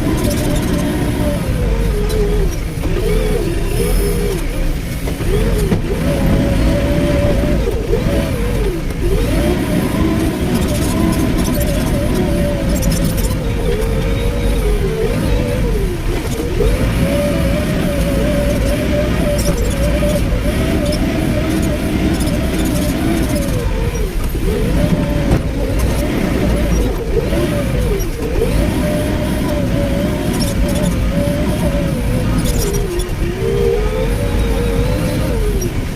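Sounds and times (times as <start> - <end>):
excavator diesel engine revving: 0.0 - 35.9.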